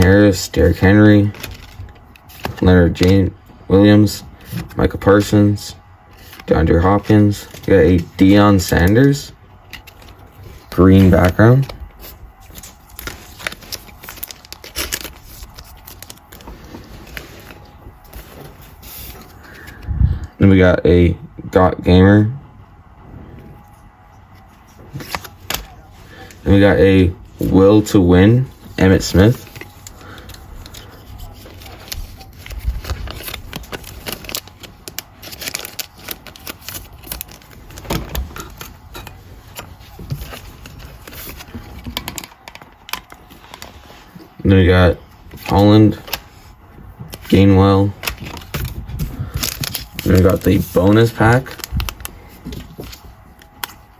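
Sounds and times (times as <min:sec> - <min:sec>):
trading cards rustling: 0:00.0 - 0:19.9, 0:24.4 - 0:53.9.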